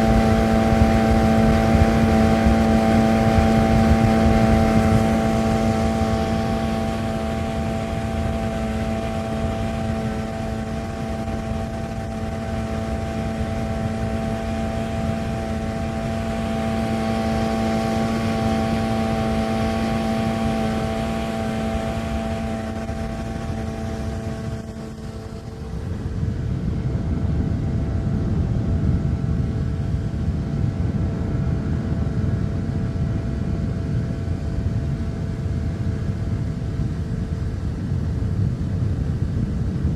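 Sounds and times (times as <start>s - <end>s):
boat engine humming: 0.0s - 39.8s.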